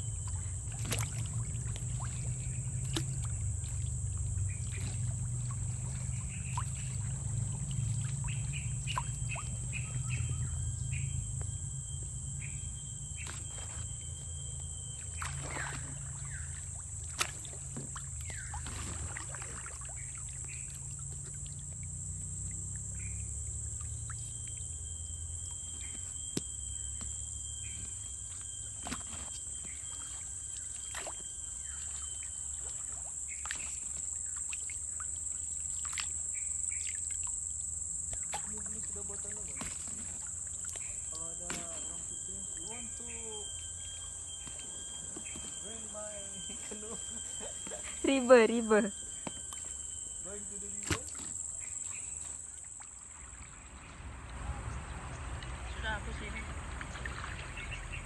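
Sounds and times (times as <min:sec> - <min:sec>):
paddle strokes in water: 0:00.0 - 0:10.4, 0:13.2 - 0:23.1, 0:23.7 - 0:37.3, 0:38.1 - 0:55.6, 0:56.4 - 0:58.0
bird chirps: 0:00.0 - 0:21.6, 0:22.4 - 0:35.1, 0:38.1 - 0:56.6, 0:57.3 - 0:58.0
high-pitched insect drone: 0:00.0 - 0:52.9.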